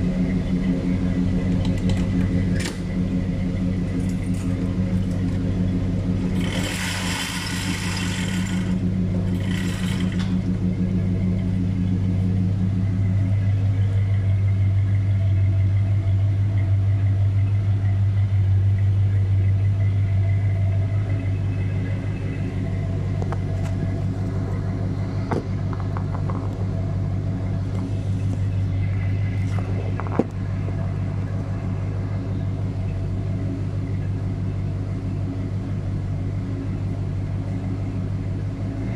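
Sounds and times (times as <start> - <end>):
car engine exhaust rumble: 0.0 - 38.9.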